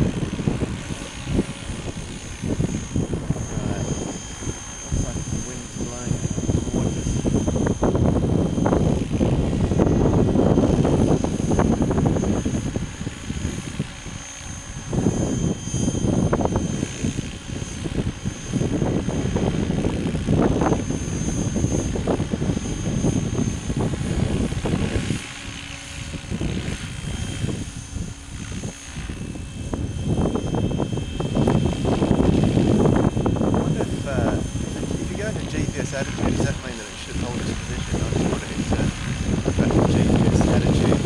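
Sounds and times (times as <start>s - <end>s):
model helicopter rotor and motor: 0.0s - 41.0s
thin high whine: 0.0s - 41.0s.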